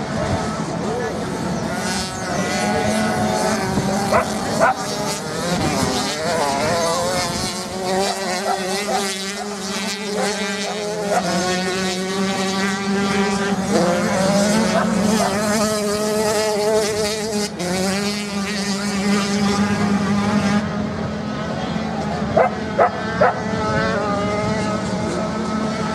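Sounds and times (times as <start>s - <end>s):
dirt bike engines racing: 0.0s - 25.9s.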